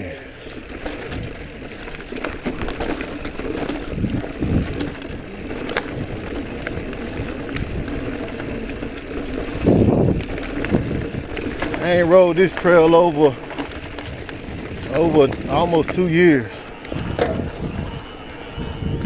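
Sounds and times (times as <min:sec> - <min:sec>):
bike clicking and rattling: 0:00.0 - 0:19.0
tyres rumbling on dirt: 0:00.0 - 0:19.0.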